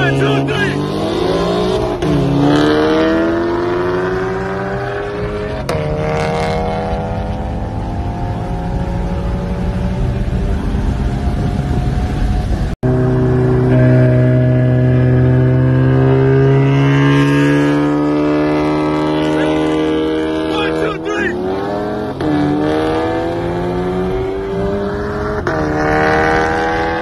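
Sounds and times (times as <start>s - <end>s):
car engine at full throttle: 0.0s - 27.0s.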